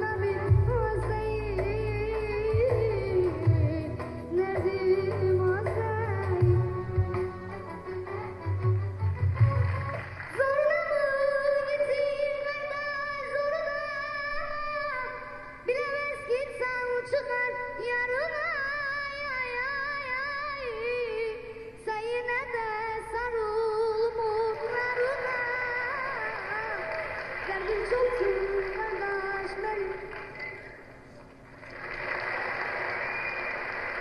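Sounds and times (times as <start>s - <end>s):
boy singing into microphone: 0.0s - 9.5s, 10.3s - 30.1s.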